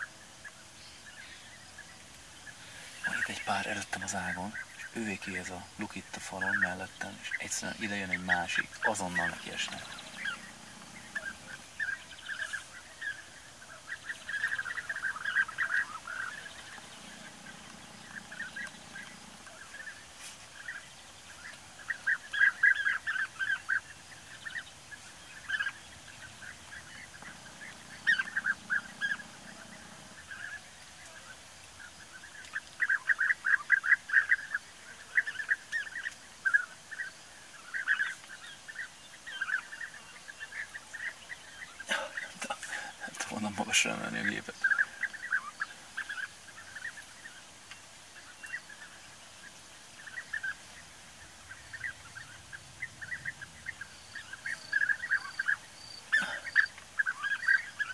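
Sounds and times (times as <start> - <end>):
birds trilling calls: 0.0 - 57.9.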